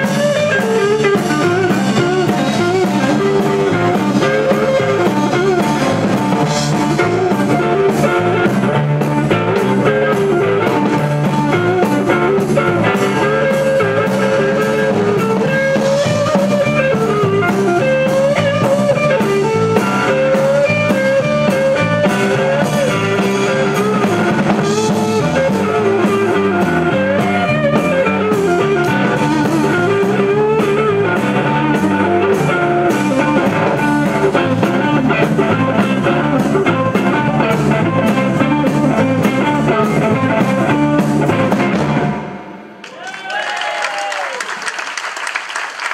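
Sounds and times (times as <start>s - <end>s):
bass guitar: 0.0s - 42.8s
electric guitar lead melody: 0.0s - 42.8s
drum kit: 0.0s - 44.4s.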